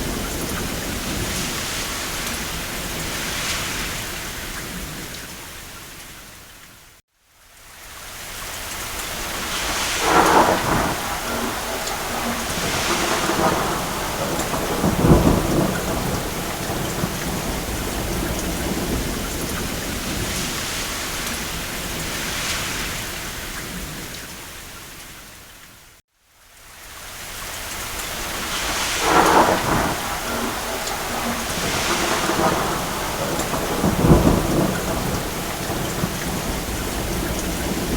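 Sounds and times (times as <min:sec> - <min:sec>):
thunder rumbling: 0:00.0 - 0:05.4, 0:09.0 - 0:24.2, 0:28.0 - 0:37.9
steady rain: 0:00.0 - 0:37.9.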